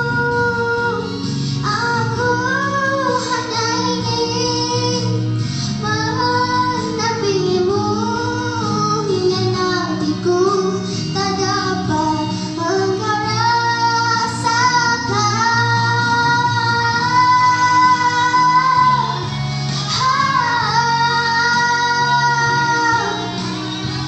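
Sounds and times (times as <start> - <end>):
guitar accompaniment: 0.0 - 24.0
woman singing pop ballad: 0.0 - 24.0.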